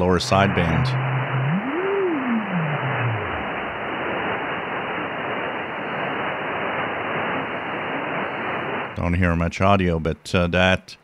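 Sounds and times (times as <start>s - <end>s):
radio static hiss: 0.0s - 9.4s.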